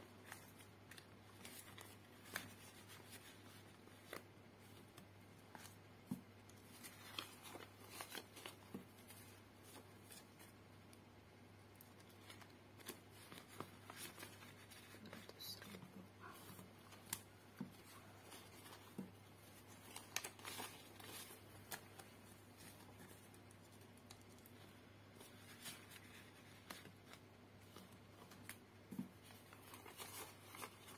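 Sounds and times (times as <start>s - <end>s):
paper banknotes rustling: 0.2s - 10.5s, 12.0s - 30.9s.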